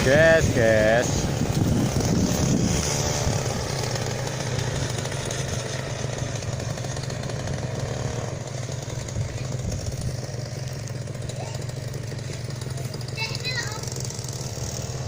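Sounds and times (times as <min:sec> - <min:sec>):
small two-stroke engine running: 0:00.0 - 0:15.0.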